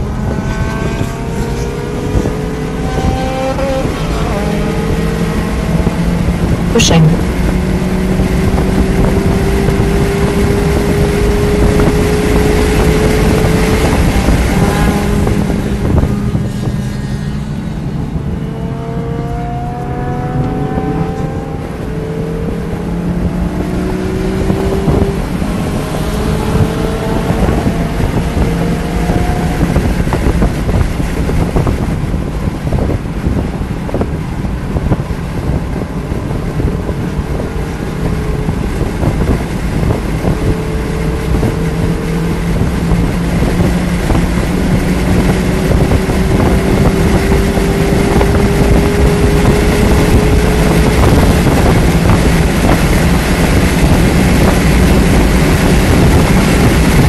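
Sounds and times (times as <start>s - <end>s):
car engine revving: 0.0s - 57.0s
wind and road noise: 0.0s - 57.0s.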